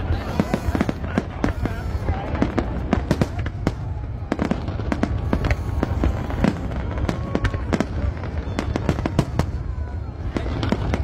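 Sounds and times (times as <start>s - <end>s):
fireworks bursts: 0.0s - 11.0s.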